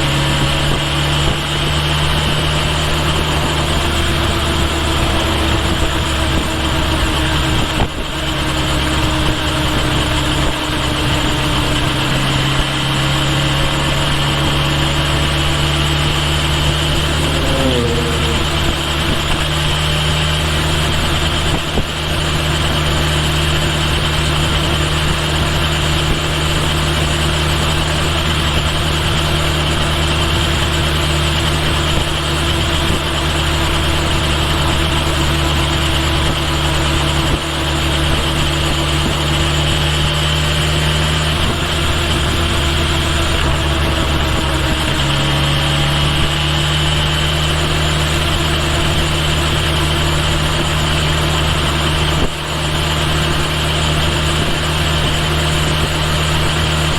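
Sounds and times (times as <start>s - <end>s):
motorcycle engine running: 0.0s - 56.9s
wind and road noise: 0.0s - 56.9s.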